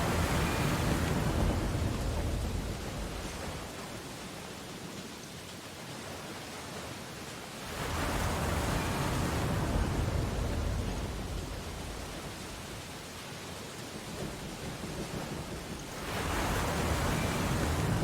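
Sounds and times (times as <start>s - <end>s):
ocean waves on beach: 0.0s - 18.0s.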